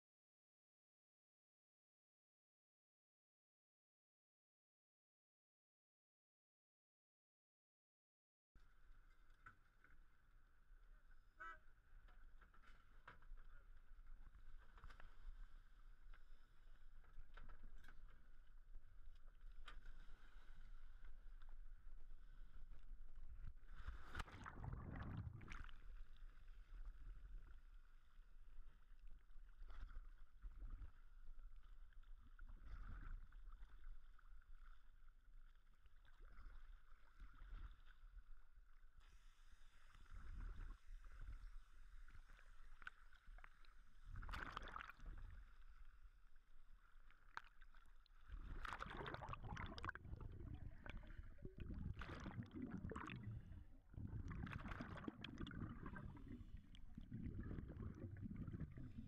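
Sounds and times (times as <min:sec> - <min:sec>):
muffled water sloshing and gurgling: 0:08.6 - 0:59.0.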